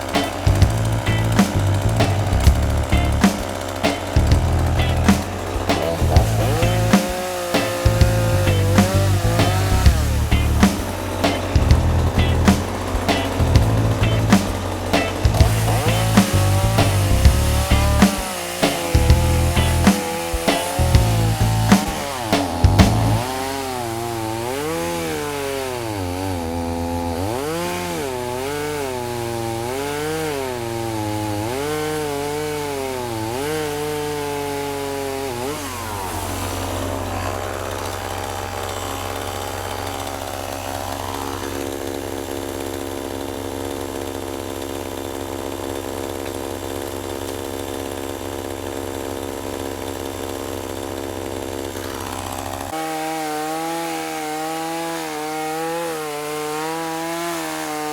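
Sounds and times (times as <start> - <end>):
chainsaw cutting log: 0.0 - 57.9.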